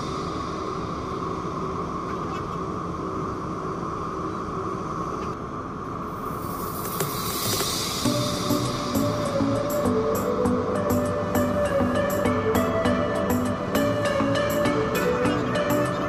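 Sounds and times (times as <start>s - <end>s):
train hiss: 0.0s - 5.1s, 5.9s - 16.0s
metro train rumble and hum: 0.0s - 16.0s.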